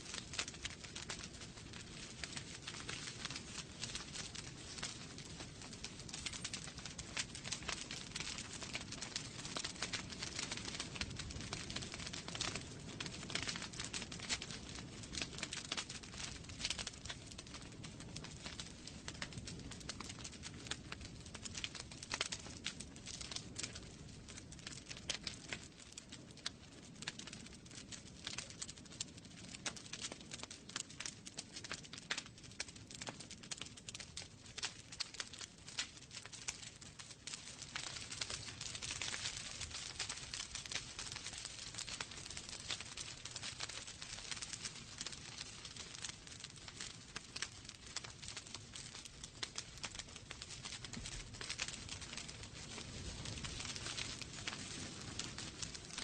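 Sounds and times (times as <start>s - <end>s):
fire crackling and popping: 0.0s - 56.0s
low rumble of flame: 0.0s - 56.0s.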